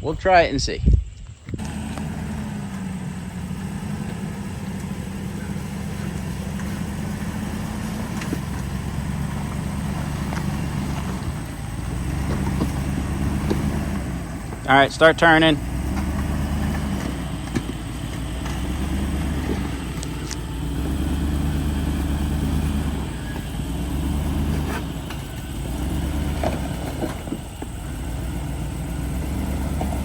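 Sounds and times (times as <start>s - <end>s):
truck engine running at low revs: 1.4s - 30.0s.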